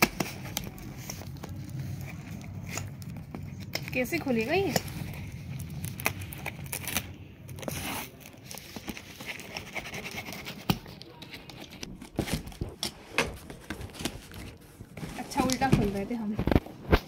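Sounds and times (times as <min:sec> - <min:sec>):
cardboard scraping and rustling: 0:00.0 - 0:17.0
packing tape crinkling and tearing: 0:00.0 - 0:17.0.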